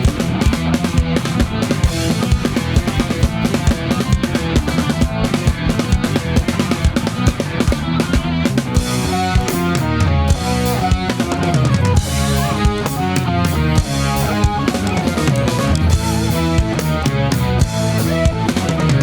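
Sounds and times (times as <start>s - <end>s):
drum kit playing: 0.0s - 19.0s
rock backing track with guitar: 0.0s - 19.0s.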